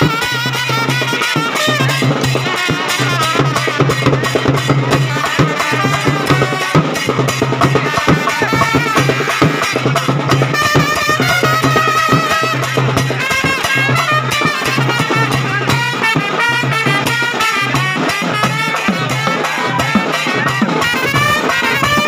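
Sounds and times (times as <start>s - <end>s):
drums beaten with sticks: 0.0s - 22.0s
trumpets playing a tune: 0.0s - 22.0s.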